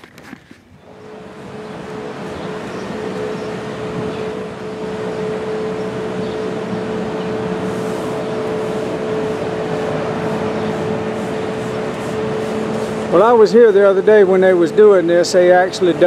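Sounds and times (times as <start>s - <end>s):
heavy machinery engines running: 0.0s - 16.0s
noisy background: 0.0s - 16.0s.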